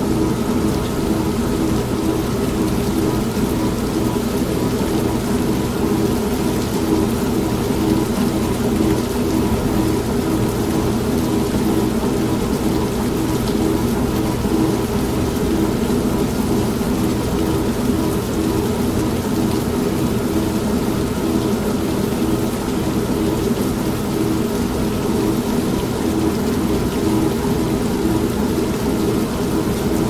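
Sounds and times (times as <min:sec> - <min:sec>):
steady rain: 0:00.0 - 0:30.0
washing machine motor hum: 0:00.0 - 0:30.0.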